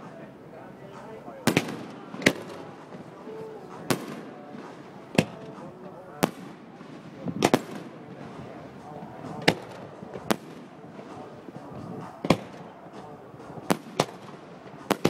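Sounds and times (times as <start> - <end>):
faint voices chattering: 0.0 - 15.0
fireworks bangs: 0.9 - 15.0.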